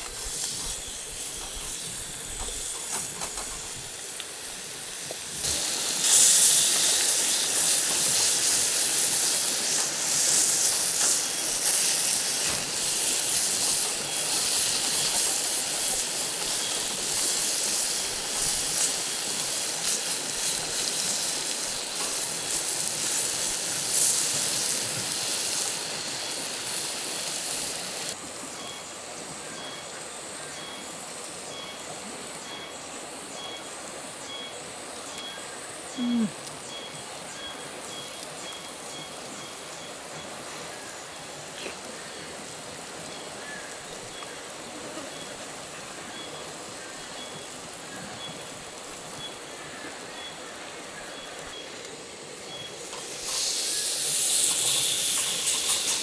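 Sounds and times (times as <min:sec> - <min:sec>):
steak sizzling: 0:00.0 - 0:28.2, 0:34.8 - 0:56.0.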